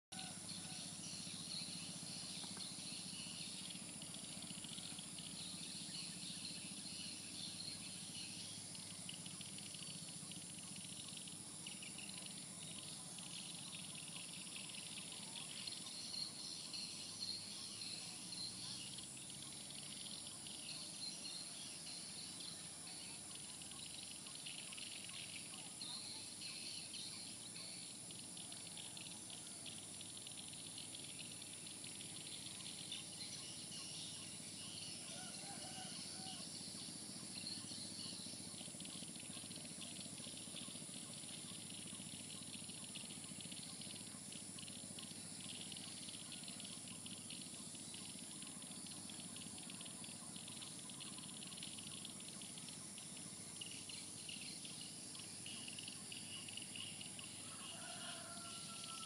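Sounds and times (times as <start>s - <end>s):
birds and insects chirping: 0.1s - 59.0s
steady high-pitched whine: 0.1s - 59.0s.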